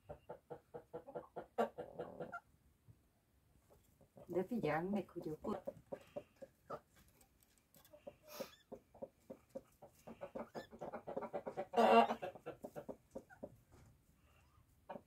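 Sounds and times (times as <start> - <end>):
hen clucking softly: 0.0 - 2.5, 5.2 - 15.0
harsh hen cluck: 0.0 - 2.6, 3.6 - 15.0.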